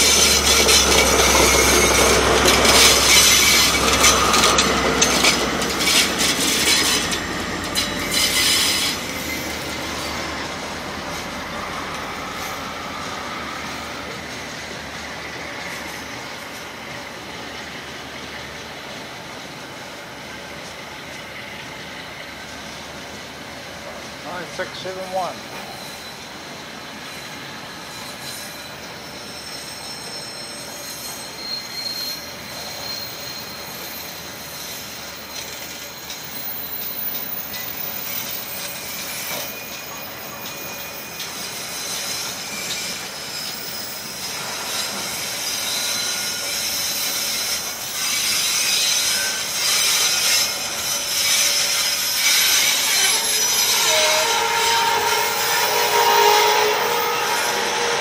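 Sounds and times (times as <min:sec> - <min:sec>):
wheel squeal: 0:00.0 - 0:17.1, 0:24.3 - 0:58.0
train wagons rolling: 0:00.0 - 0:58.0.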